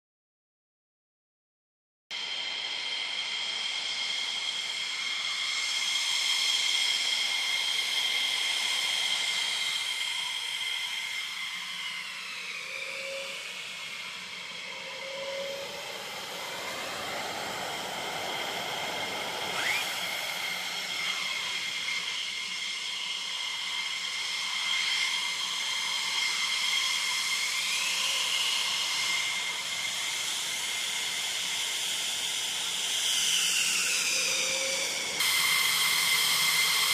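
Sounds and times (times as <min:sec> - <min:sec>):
jet engines whining: 0:02.6 - 0:36.9
short rising whistle: 0:04.3 - 0:31.2, 0:33.1 - 0:36.9.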